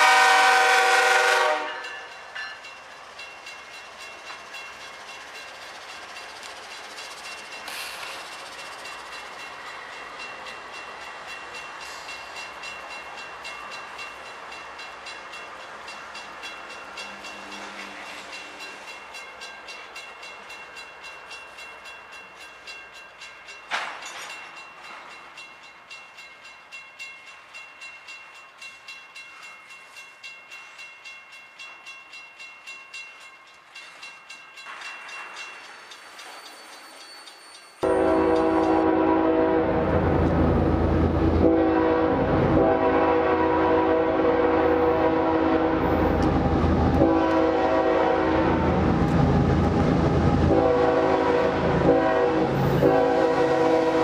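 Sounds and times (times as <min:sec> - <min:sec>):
crossing bell ringing: 0:00.0 - 0:39.9, 0:41.0 - 0:54.0
diesel locomotives: 0:00.0 - 0:54.0.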